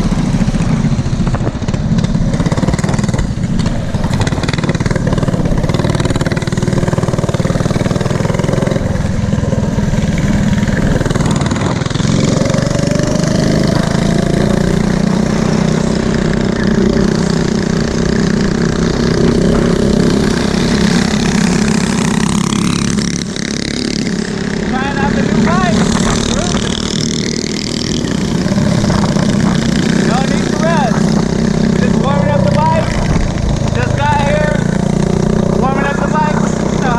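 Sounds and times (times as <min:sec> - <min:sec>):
mini bike engine running: 0:00.0 - 0:36.9.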